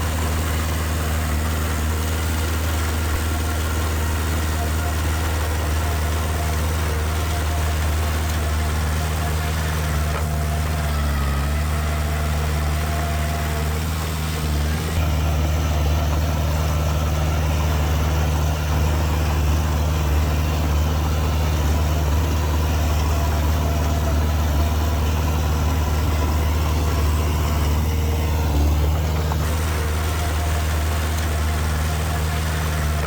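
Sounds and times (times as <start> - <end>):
heavy machinery diesel engine running: 0.0 - 33.0.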